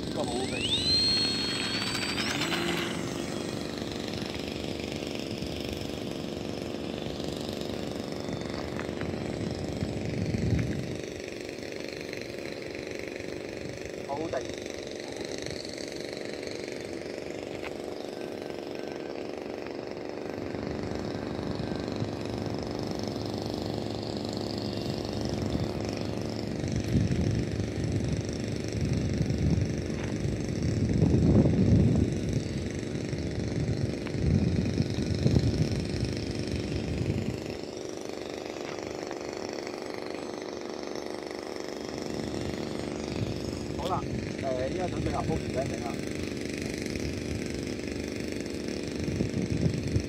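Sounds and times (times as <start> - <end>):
model helicopter rotor hum: 0.0 - 50.0.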